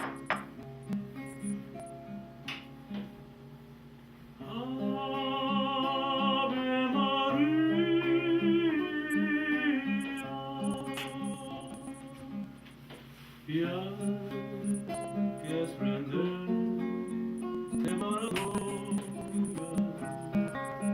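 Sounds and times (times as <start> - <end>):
acoustic guitar strumming: 0.0 - 3.5, 4.4 - 12.9, 13.5 - 20.9.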